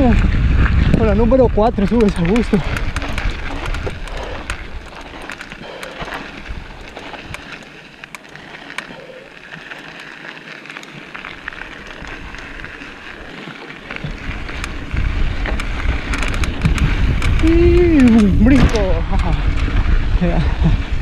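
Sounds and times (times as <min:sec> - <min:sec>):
wind rumble on microphone: 0:00.0 - 0:07.6, 0:11.4 - 0:21.0
bike rattling clicks: 0:00.0 - 0:21.0
bike tyres crackling on gravel: 0:00.0 - 0:21.0.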